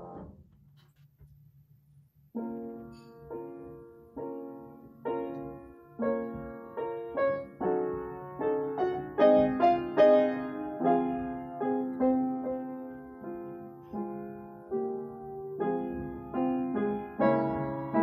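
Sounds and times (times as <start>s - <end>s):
slow solo piano piece: 0.0s - 0.5s, 2.3s - 18.0s.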